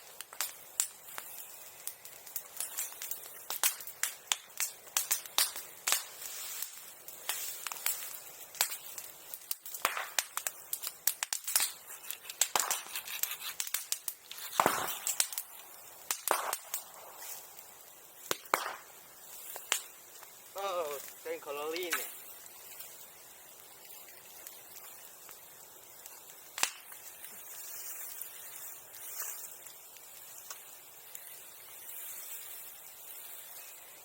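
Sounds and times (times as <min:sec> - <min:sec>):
bonfire crackling and popping: 0:00.0 - 0:34.0.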